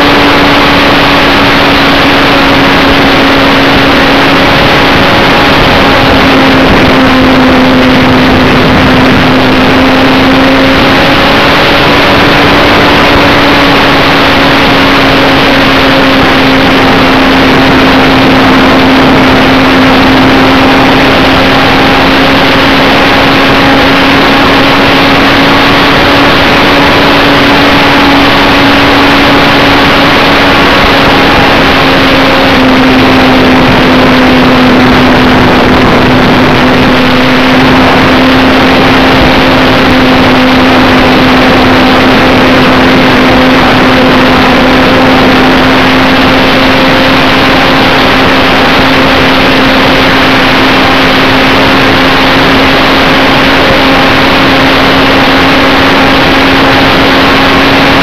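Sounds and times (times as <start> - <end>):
model plane motor droning: 0.0 - 58.0
wind rush on microphone: 0.0 - 58.0.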